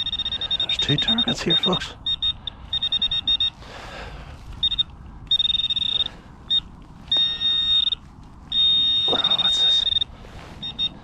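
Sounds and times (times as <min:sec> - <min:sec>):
metal detector beeping: 0:00.0 - 0:03.6, 0:04.5 - 0:11.0.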